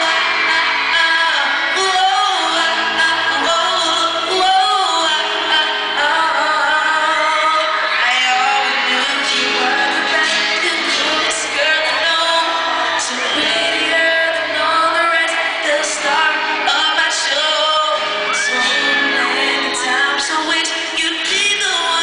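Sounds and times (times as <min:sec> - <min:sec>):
audience screaming: 0:00.0 - 0:04.6, 0:05.7 - 0:22.0
acoustic guitar: 0:00.0 - 0:22.0
man singing: 0:00.0 - 0:22.0.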